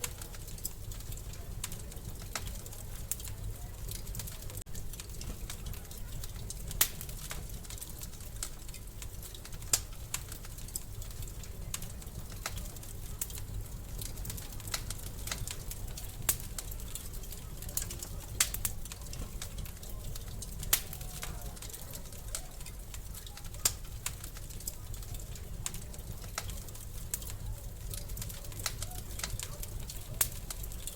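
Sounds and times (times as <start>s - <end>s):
fire low rumble: 0.0s - 30.9s
wood fire popping and snapping: 0.0s - 30.9s.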